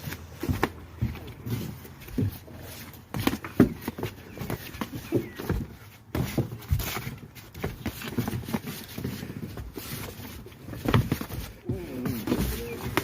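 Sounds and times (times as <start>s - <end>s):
feet shuffling: 0.0s - 13.0s.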